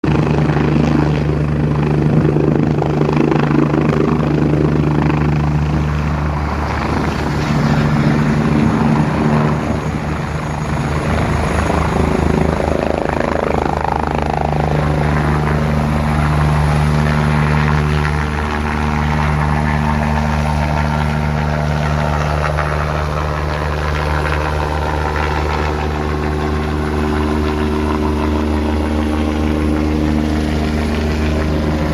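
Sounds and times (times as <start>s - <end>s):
helicopter turbine and rotor: 0.0s - 31.9s.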